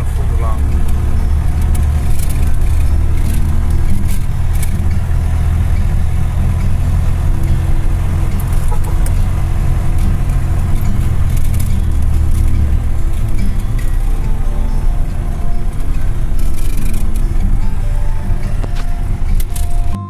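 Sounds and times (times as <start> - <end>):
short clicks and rattles: 0.0 - 20.0
vehicle engine low hum: 0.0 - 20.0.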